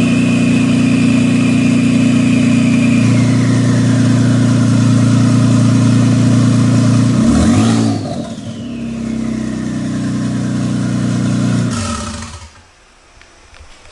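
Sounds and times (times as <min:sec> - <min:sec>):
car engine idling and revving: 0:00.0 - 0:12.7
falling whine: 0:00.0 - 0:13.0.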